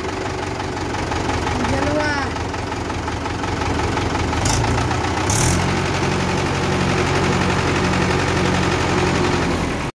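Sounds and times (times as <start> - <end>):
tractor diesel engine running: 0.0 - 9.9.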